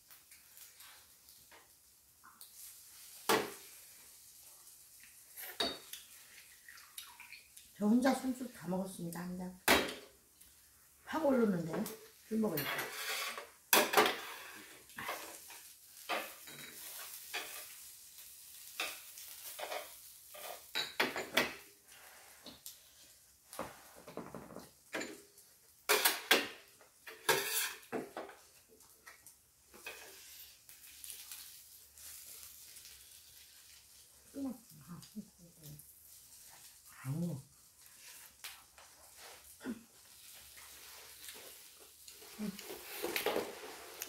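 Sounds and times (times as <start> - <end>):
pancakes sizzling on griddle: 0.0 - 6.7, 11.8 - 44.0.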